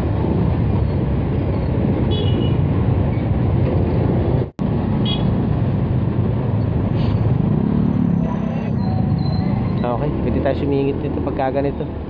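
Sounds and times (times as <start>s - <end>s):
wind rush and road noise: 0.0s - 12.0s.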